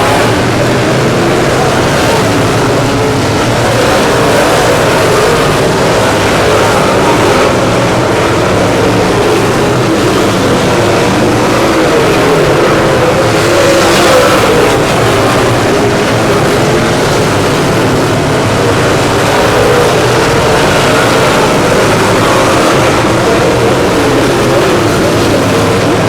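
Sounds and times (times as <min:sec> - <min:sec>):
race car engines running: 0:00.0 - 0:26.0.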